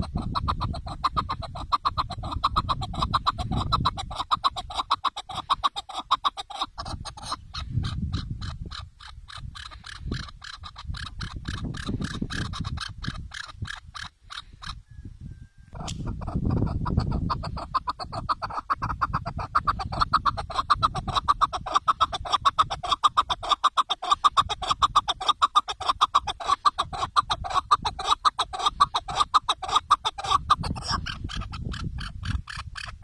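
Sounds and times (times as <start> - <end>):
partridge calling: 0.0 - 33.0.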